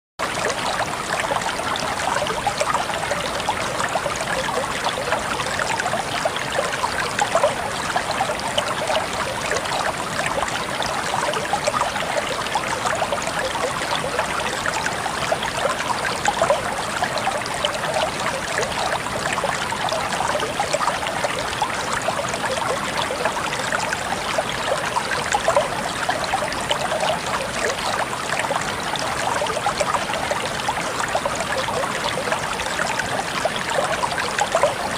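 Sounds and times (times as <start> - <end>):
river water running: 0.2 - 34.9.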